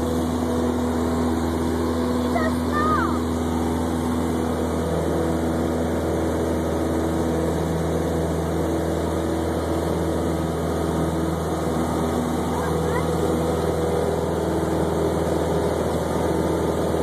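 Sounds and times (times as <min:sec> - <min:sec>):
light aircraft engine and propeller: 0:00.0 - 0:17.0.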